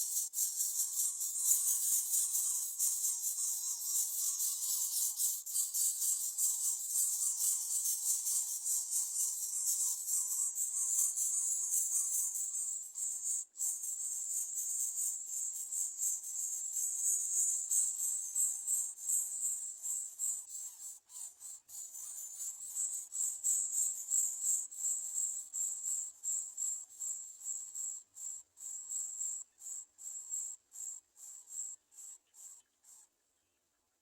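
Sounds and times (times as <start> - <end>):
insect chorus pulsing trill: 0.0 - 31.8.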